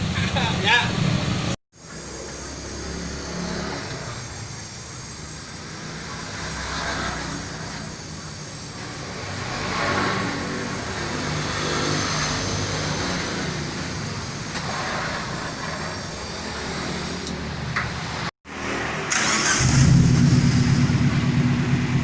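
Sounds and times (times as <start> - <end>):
truck exhaust idling: 0.0 - 22.0.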